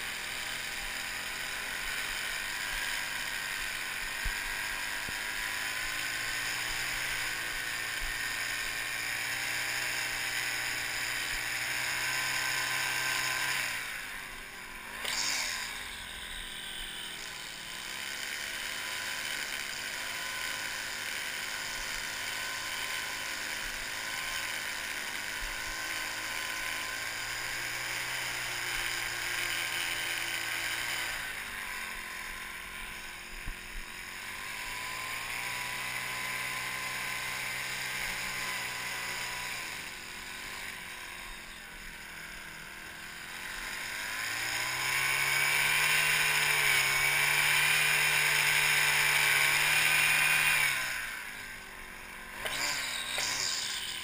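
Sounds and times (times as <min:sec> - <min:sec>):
string trimmer whirring: 0:00.0 - 0:54.0.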